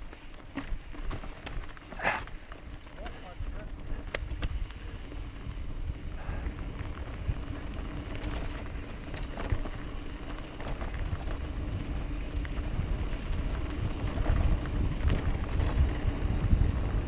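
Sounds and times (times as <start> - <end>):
bike clicks and rattles: 0.0 - 17.0
tyres crunching over gravel: 0.0 - 17.0
wind buffeting microphone: 0.9 - 17.0.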